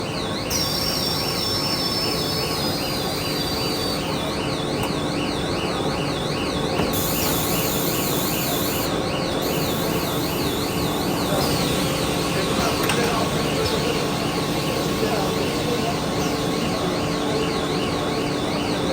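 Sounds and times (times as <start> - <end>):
machinery drone: 0.0 - 18.9.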